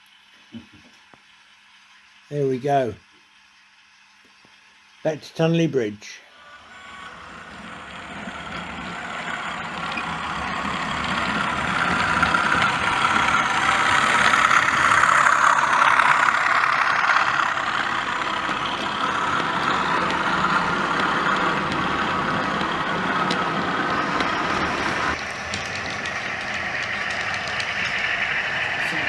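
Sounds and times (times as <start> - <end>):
model train engine sound from speaker: 0.0 - 29.0.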